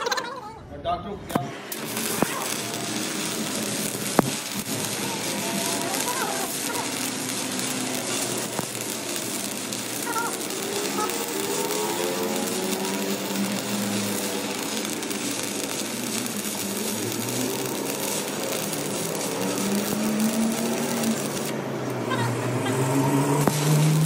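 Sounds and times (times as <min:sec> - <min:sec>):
welding arc crackling and hissing: 0:01.3 - 0:24.0.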